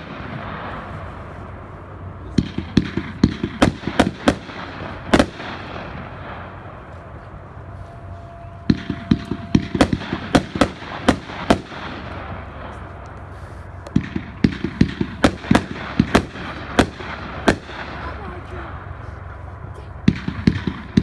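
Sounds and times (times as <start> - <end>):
fireworks sharp bangs: 0.0 - 21.0.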